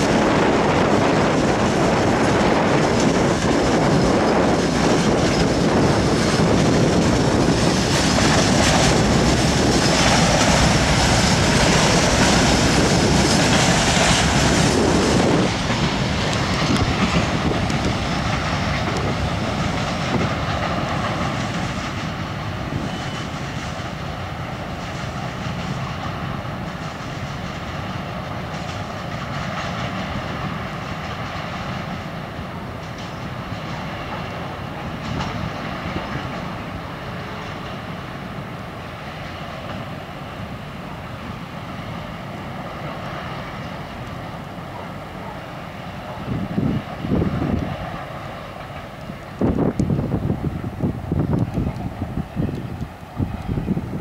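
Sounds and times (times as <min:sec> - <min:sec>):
freight wagons rolling on rails: 0:00.0 - 0:54.0.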